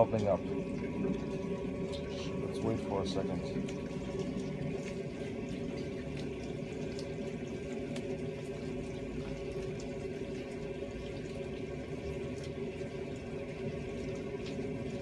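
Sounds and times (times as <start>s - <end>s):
running water at drain: 0.0s - 15.0s.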